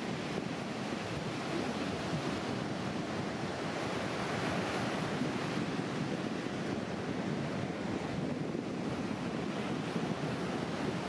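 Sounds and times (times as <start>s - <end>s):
surf waves breaking on beach: 0.0s - 11.0s.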